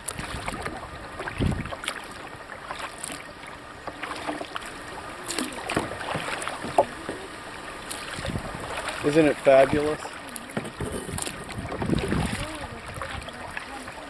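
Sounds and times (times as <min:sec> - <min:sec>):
kayak paddle splashing: 0:00.0 - 0:14.0.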